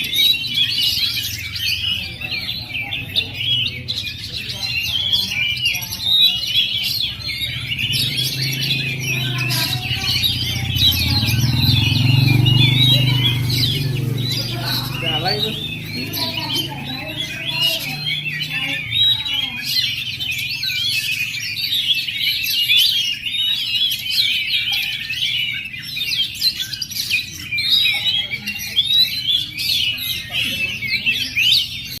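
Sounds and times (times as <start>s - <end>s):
bird singing whistled song: 0.0s - 2.1s, 2.8s - 32.0s.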